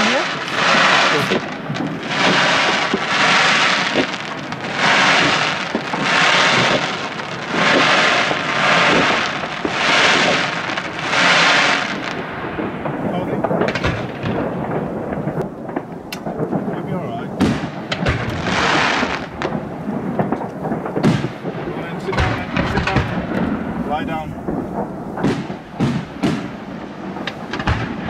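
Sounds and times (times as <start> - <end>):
fireworks bursting: 0.0 - 28.0
fireworks crackling and popping: 0.0 - 28.0.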